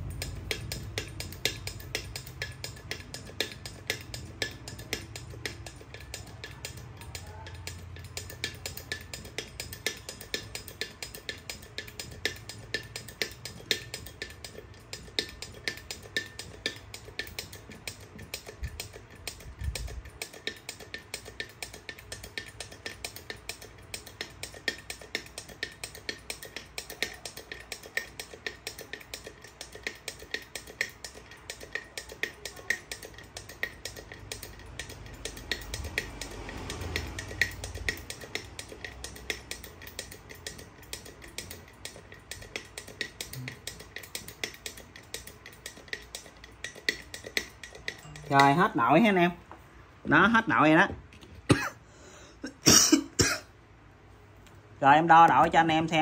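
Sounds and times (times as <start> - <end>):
hydraulic jack pump clicking: 0.0 - 48.8.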